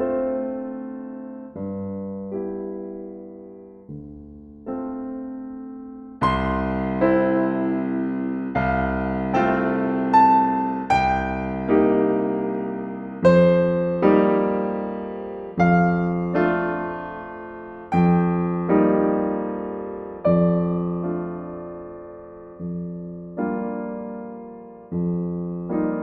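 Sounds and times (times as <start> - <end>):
gentle solo piano chords: 0.0 - 26.0.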